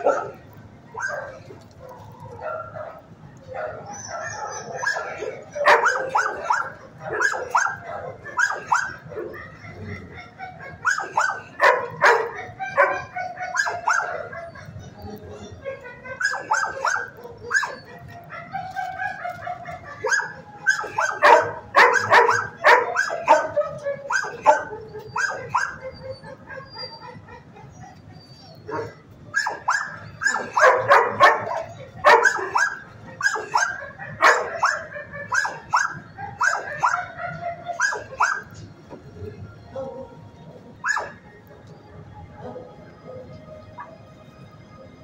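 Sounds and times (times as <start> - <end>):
dogs barking: 0.0 - 44.2.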